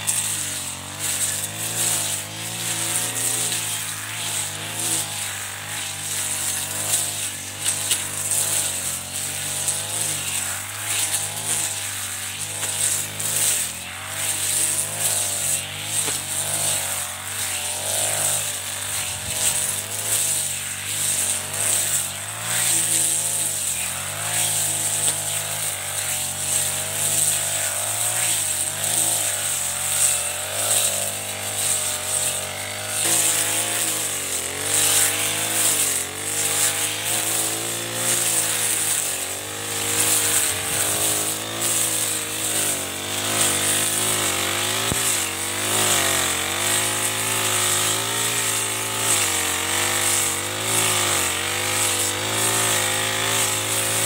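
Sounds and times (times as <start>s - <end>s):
brush cutter engine running: 0.0s - 54.0s
grass being slashed: 0.0s - 54.0s.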